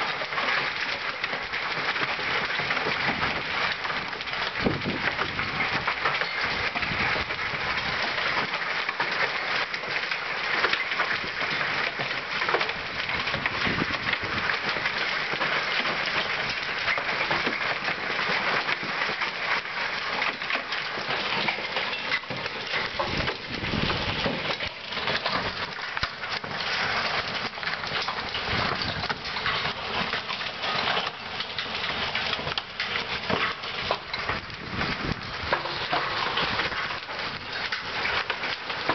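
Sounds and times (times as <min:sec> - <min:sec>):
hail clattering on patio: 0:00.0 - 0:38.9.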